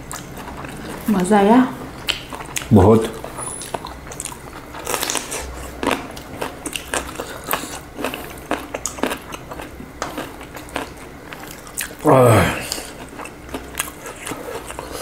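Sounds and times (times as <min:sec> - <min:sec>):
crunchy chewing: 0:00.0 - 0:01.2, 0:01.9 - 0:15.0.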